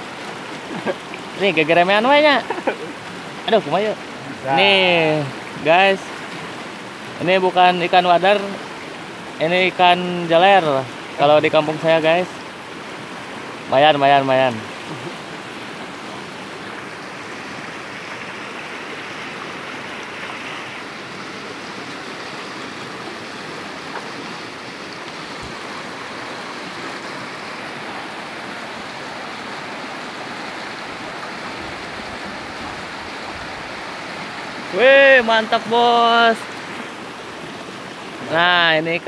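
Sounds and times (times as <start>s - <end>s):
stream rushing over riffle: 0.0s - 39.0s.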